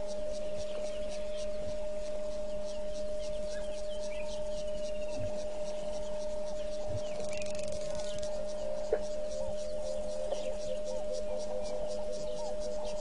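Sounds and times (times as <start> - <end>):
faint bush ambience: 0.0 - 13.0
high-pitched electrical whine: 0.0 - 13.0
soft bird chirps: 0.0 - 13.0.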